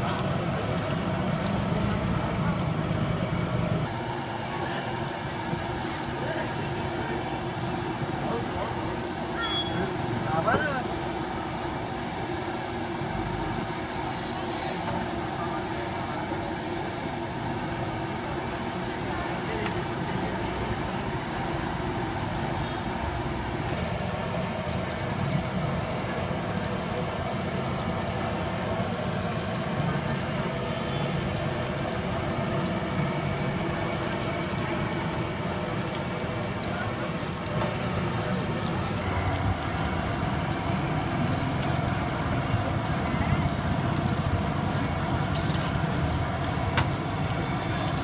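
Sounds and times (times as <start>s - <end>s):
oil sizzling and crackling: 0.0s - 48.0s
street traffic: 0.0s - 48.0s.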